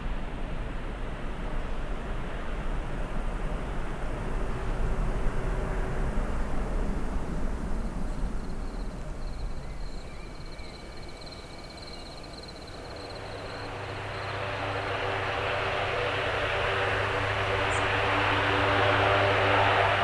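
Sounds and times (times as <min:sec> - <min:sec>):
aircraft engines rumbling: 0:00.0 - 0:20.0.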